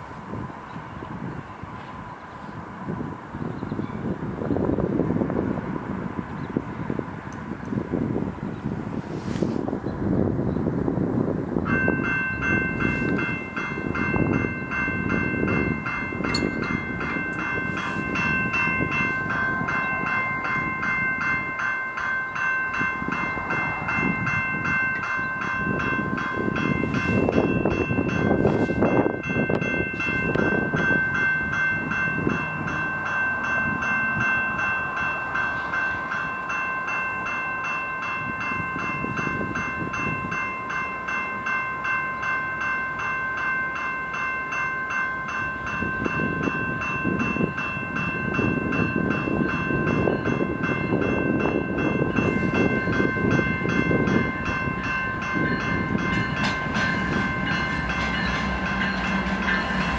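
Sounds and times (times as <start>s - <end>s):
train engine and wheel noise: 0.0s - 59.9s
bell ringing rapidly: 11.8s - 59.9s.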